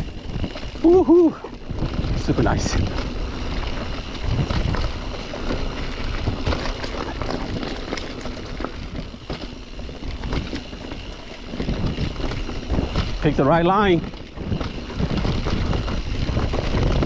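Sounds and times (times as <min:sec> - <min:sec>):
bike frame rattling: 0:00.0 - 0:17.0
wind rushing over microphone: 0:00.0 - 0:17.0.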